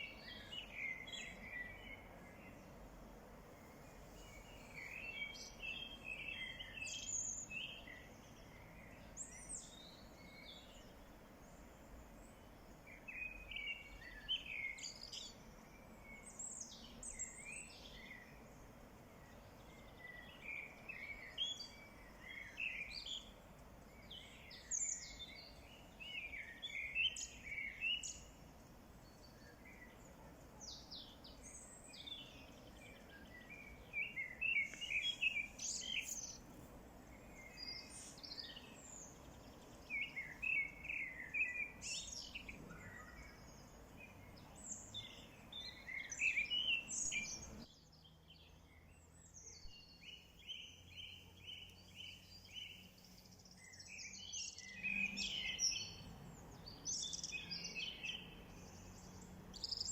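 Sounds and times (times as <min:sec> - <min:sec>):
faint steady hiss: 0:00.0 - 0:59.9
songbirds chirping: 0:00.0 - 0:59.9.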